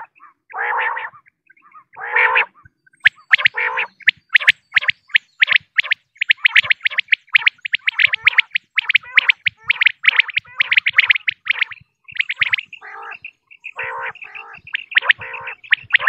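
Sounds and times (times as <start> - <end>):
quail calling: 0.0 - 16.0.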